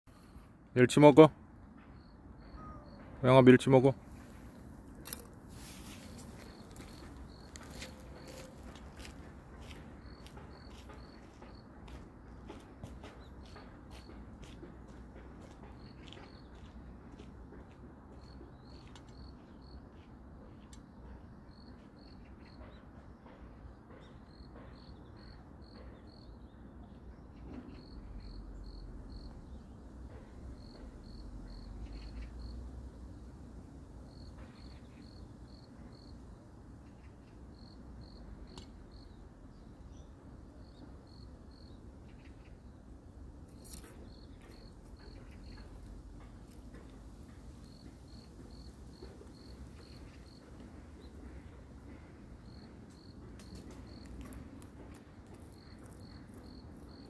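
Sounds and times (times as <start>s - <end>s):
cricket chirping: 1.8s - 3.2s, 3.8s - 12.0s, 15.6s - 26.5s, 27.2s - 33.4s, 34.0s - 42.8s, 43.5s - 57.0s.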